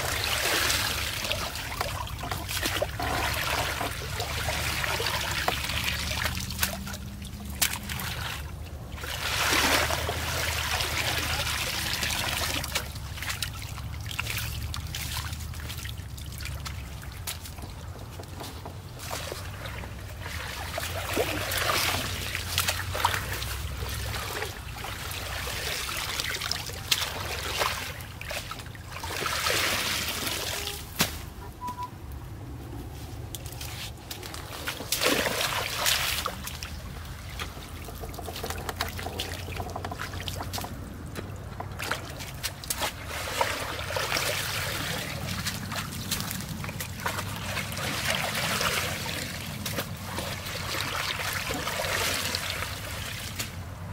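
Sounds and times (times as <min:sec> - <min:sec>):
stream water sloshing and splashing: 0:00.0 - 0:53.9.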